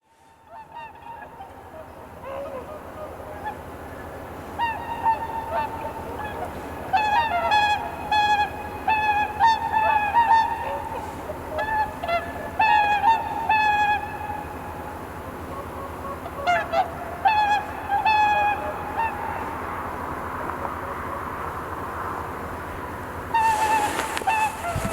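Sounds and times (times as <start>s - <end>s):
swans honking: 0.4s - 24.9s.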